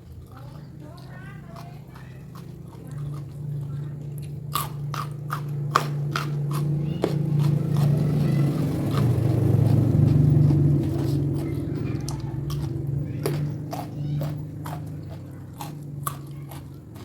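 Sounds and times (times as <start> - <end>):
close-up chewing with crunching: 0.0 - 17.0
steady low hum: 0.0 - 17.0.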